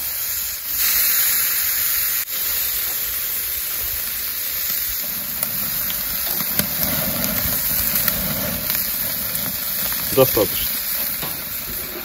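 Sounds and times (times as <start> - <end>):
bacon sizzling on a grill: 0.0 - 12.0.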